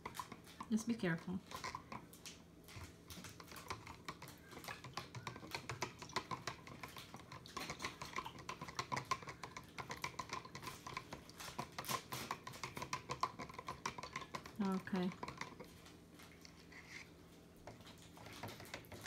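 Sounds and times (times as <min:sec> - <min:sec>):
plastic spoon stirring in cup: 0:00.0 - 0:19.0.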